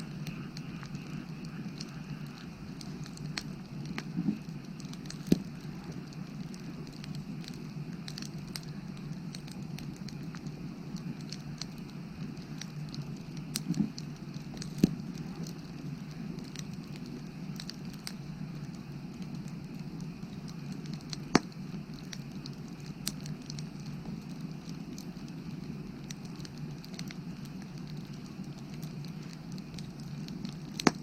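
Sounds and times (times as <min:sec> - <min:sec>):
fire crackles and pops: 0:00.0 - 0:31.0
fire rushing flame: 0:00.0 - 0:31.0.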